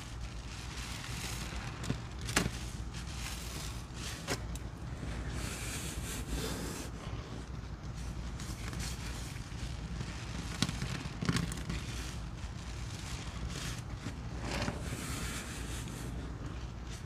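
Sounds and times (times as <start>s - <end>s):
foamy sponge squeezed crackling: 0.0s - 17.0s
steady low hum: 0.0s - 17.0s.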